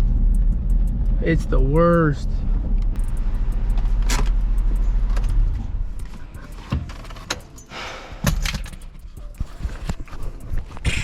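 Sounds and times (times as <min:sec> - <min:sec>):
car engine rumble: 0:00.0 - 0:10.8.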